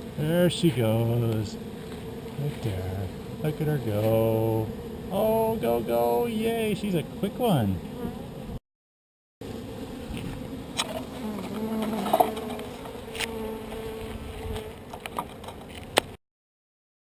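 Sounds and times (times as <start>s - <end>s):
bees buzzing: 0.0s - 8.6s, 9.4s - 16.2s.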